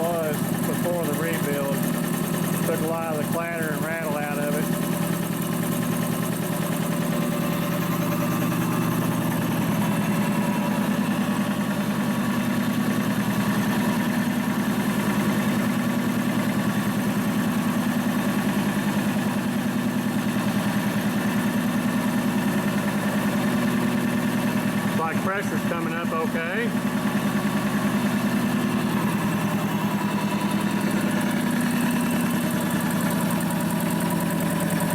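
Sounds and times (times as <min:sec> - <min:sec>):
air compressor running: 0:00.0 - 0:34.9.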